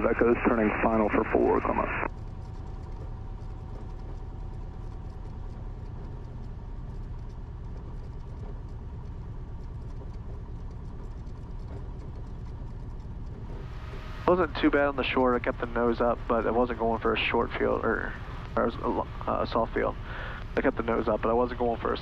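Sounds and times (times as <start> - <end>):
airplane engine and propeller droning: 0.0 - 22.0.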